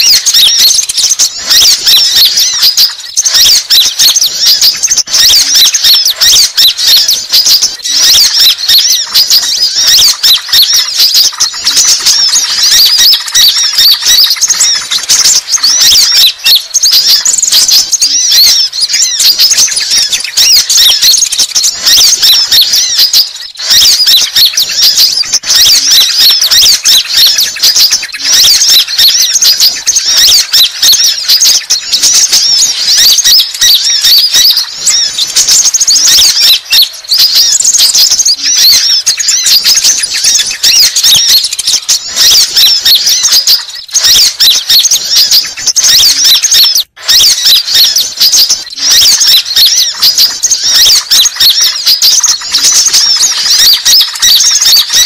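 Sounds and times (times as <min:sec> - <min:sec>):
birds twittering rapidly: 0:00.0 - 0:55.0.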